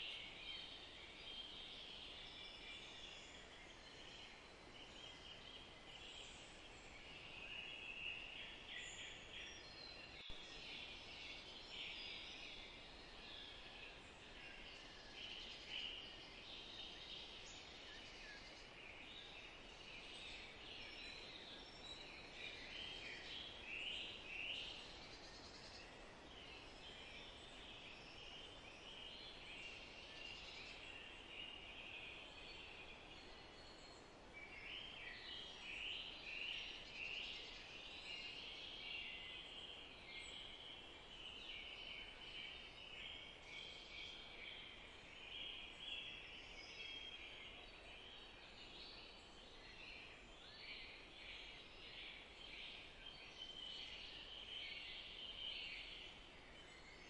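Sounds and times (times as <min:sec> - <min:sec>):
small birds chirping and singing: 0:00.0 - 0:57.0.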